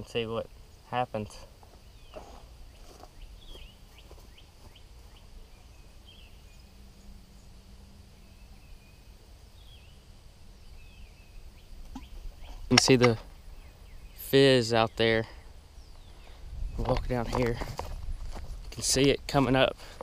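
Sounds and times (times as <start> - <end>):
low rumble of wind: 0.0 - 20.0.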